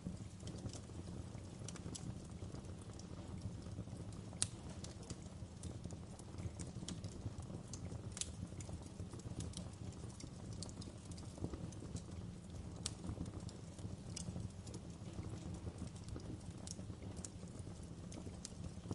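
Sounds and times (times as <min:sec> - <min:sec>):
fire pops and snaps: 0:00.0 - 0:18.9
low rumble of burning logs: 0:00.0 - 0:18.9.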